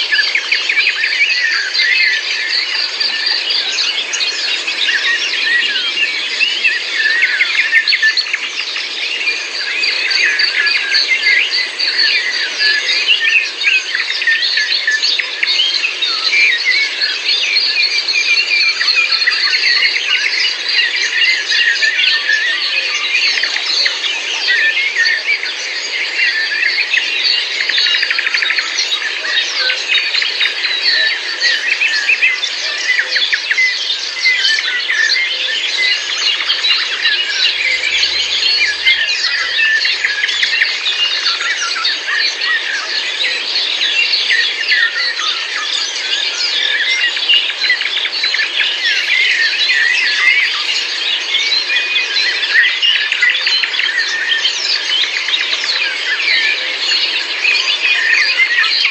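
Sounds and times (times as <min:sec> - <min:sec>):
small birds chirping and twittering: 0:00.0 - 0:58.9.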